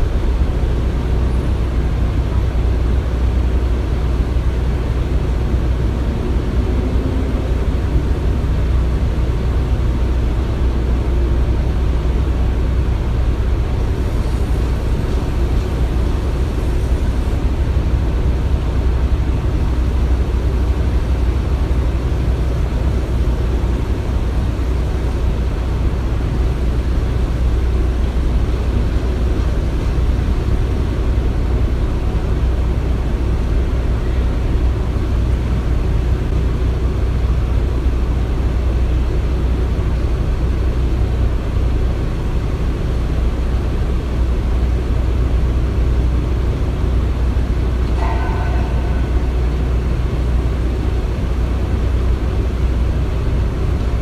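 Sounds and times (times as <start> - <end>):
low rumble of machinery: 0.0 - 54.0.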